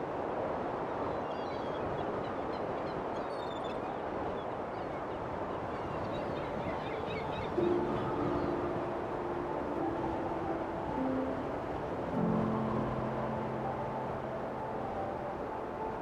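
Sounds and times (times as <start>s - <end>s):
rushing wind: 0.0s - 16.0s.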